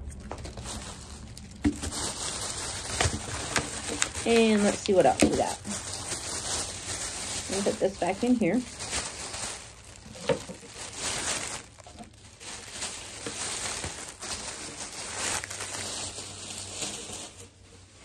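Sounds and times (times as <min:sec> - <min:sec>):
plastic bag rustling: 0:00.0 - 0:18.0.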